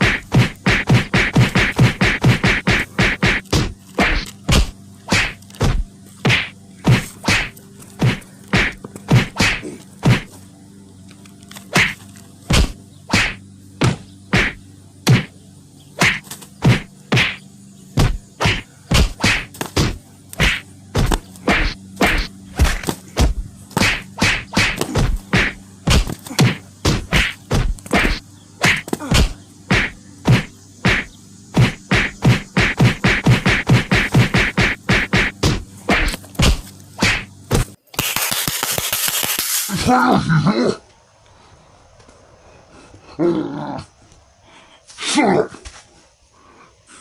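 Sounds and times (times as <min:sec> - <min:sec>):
sharp whacks and slaps: 0:00.0 - 0:10.4, 0:11.6 - 0:15.4, 0:16.0 - 0:39.9.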